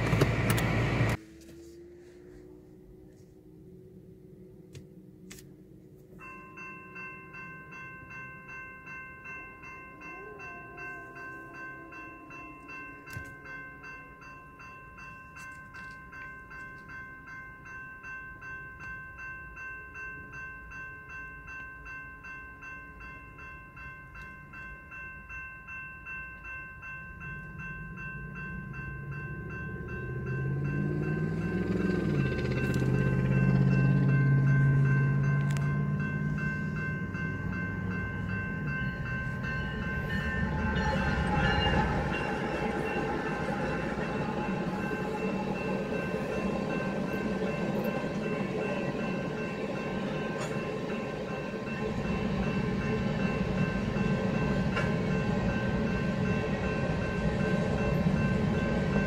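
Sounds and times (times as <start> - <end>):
train rumble: 0.0 - 59.0
railroad crossing bell ringing: 5.7 - 59.0.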